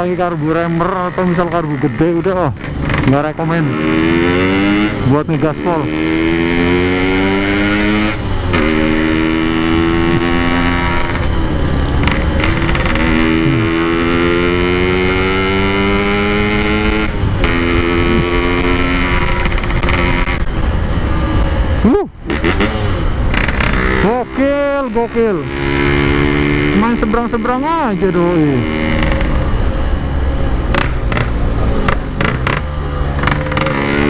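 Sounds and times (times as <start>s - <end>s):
two-stroke motorcycle engine: 0.0s - 34.0s.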